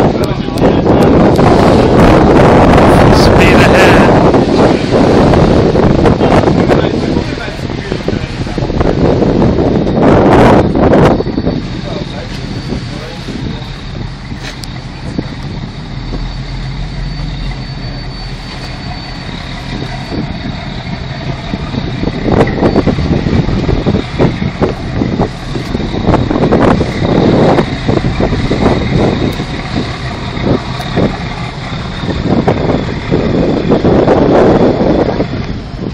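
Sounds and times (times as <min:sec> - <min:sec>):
ferry engine running: 0:00.0 - 0:35.9
wind buffeting microphone: 0:00.0 - 0:35.9.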